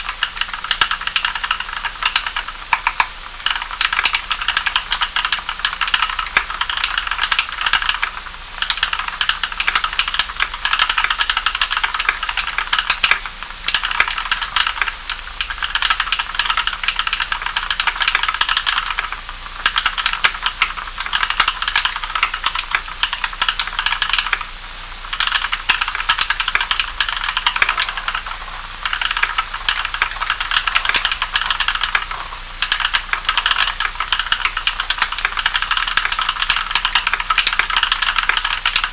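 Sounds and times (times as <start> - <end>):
fast typing on mechanical keyboard: 0.0 - 24.5, 25.1 - 38.9.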